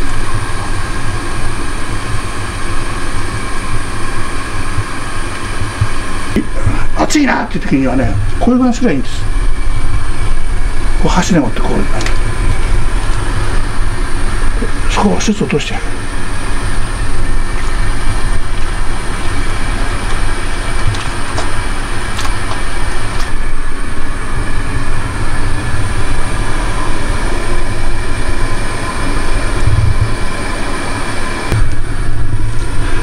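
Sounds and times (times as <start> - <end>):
water boiling hard: 0.0 - 33.0.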